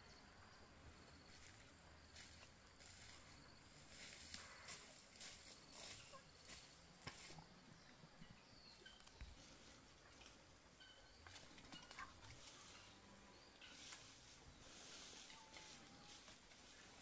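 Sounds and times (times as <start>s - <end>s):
rustling of branches and leaves: 0.9s - 17.0s.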